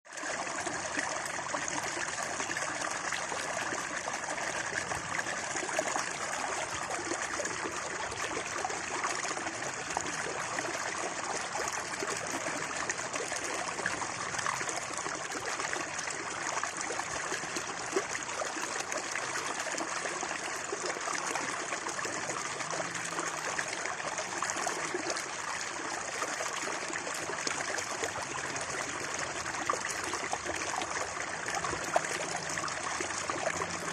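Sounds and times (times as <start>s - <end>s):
stream water babbling: 0.1s - 33.9s.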